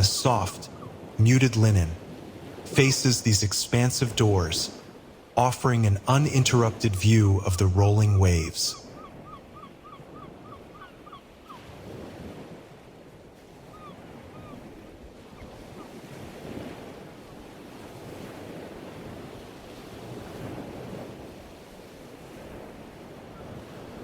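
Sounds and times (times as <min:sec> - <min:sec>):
ocean waves washing ashore: 0:00.0 - 0:24.0.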